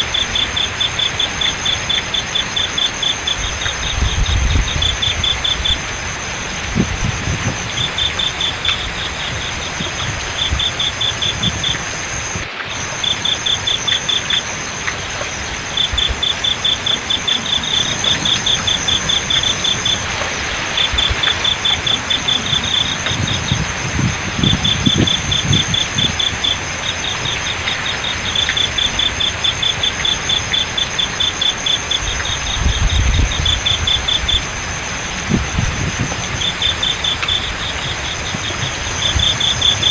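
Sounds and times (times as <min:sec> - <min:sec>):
high-pitched insect trill: 0:00.0 - 0:06.2, 0:07.1 - 0:20.1, 0:20.7 - 0:34.5, 0:35.6 - 0:39.9
crickets chirping: 0:00.0 - 0:39.9
flowing water: 0:00.0 - 0:39.9.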